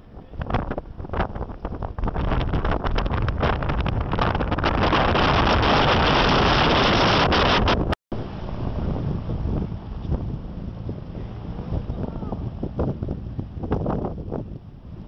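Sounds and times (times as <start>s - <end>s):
boat rumble: 0.0s - 15.0s
water: 0.0s - 15.0s
wind buffeting microphone: 0.0s - 15.0s.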